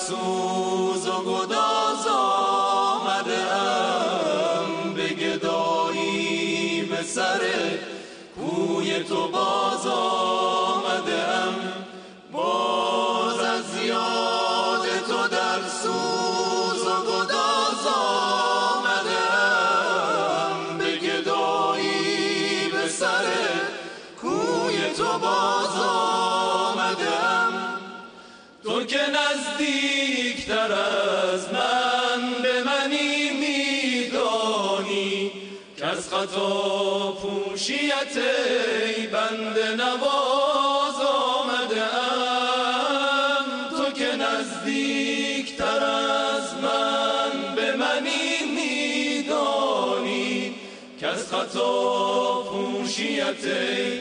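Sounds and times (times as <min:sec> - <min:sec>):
male vocal ensemble chanting: 0:00.0 - 0:28.0, 0:28.6 - 0:54.0.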